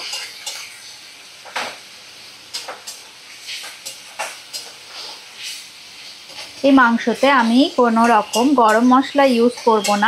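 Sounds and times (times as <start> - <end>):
spatula scraping a pan: 0.0 - 1.8, 2.4 - 10.0
masala sizzling in a pan: 0.0 - 10.0.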